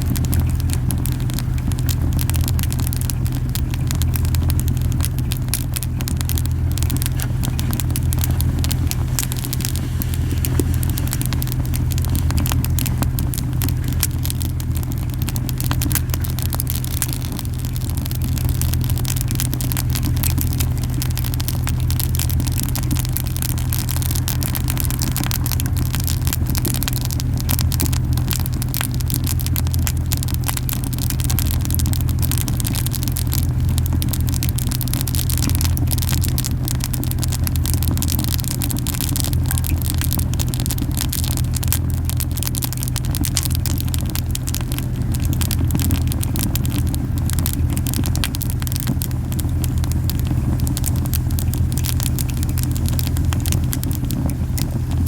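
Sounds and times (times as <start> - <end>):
campfire crackling and popping: 0.0 - 55.0
low rumbling of flames: 0.0 - 55.0.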